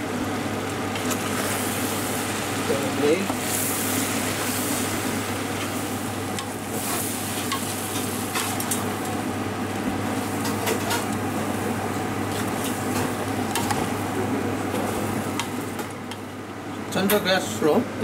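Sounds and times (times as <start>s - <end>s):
vegetables sizzling in oil: 0.0s - 16.7s.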